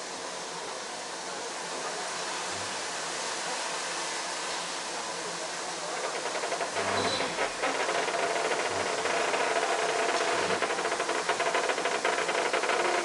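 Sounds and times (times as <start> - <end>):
steam train rushing hiss: 0.0 - 13.0.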